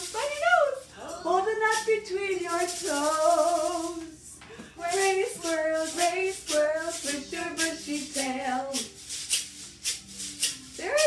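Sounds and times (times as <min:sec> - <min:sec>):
woman singing: 0:00.0 - 0:08.9, 0:10.8 - 0:11.0
egg shaker rattles: 0:00.0 - 0:11.0.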